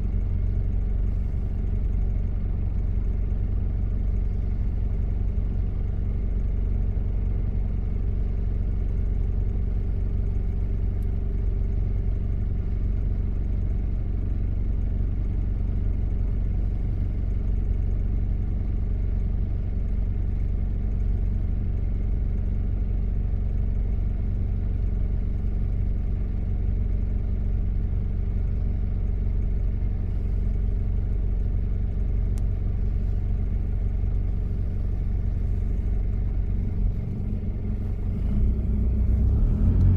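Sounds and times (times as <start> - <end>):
diesel engine drone in cabin: 0.0 - 39.9.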